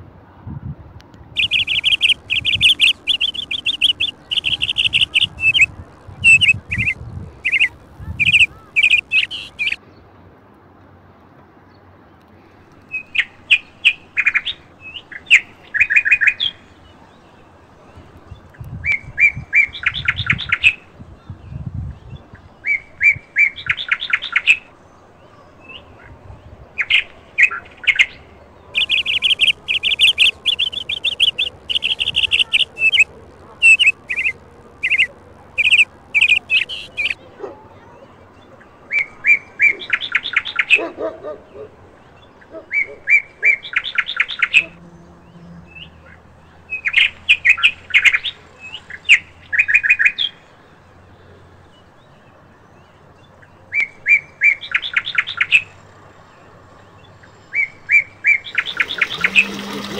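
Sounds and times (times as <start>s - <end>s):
songbirds chirping in trills: 1.2s - 10.4s, 11.6s - 59.9s.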